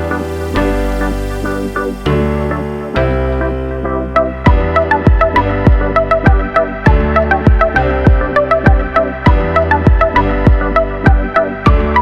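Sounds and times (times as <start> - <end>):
electronic music with kick drum: 0.0 - 12.0.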